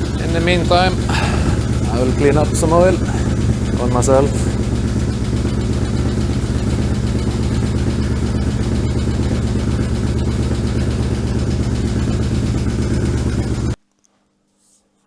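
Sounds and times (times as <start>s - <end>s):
motorcycle engine idling: 0.0s - 13.8s.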